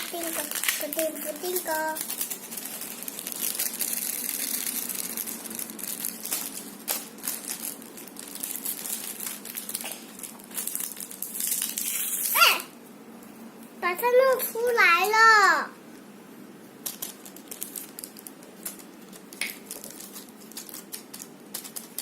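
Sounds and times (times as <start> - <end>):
plastic packaging crinkling: 0.0 - 12.6, 16.8 - 22.0.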